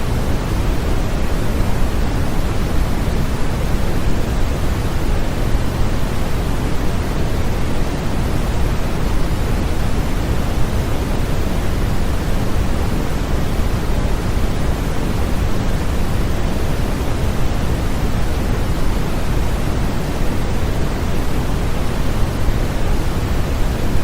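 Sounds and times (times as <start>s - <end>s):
deep steady noise hiss: 0.0s - 24.0s.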